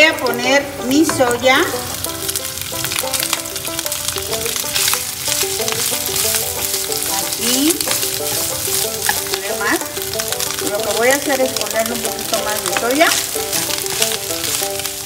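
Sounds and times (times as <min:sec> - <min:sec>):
food sizzling in frying pan: 0:00.0 - 0:15.0
wooden spoon stirring: 0:00.9 - 0:15.0.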